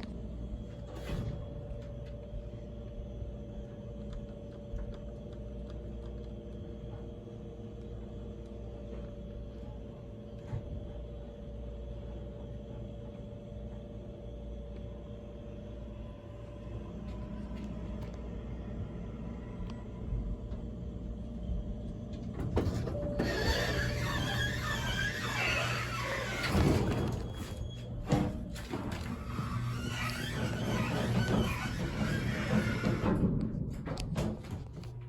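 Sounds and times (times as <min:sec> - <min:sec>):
elevator car rumble: 0:00.0 - 0:35.0
motor hum: 0:00.0 - 0:35.0.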